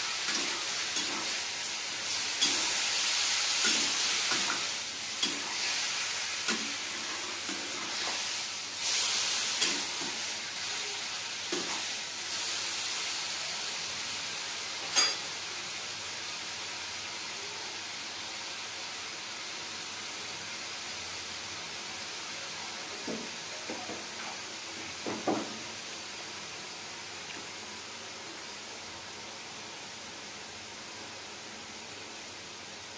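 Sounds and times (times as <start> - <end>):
mushrooms sizzling in a wok: 0.0 - 32.9.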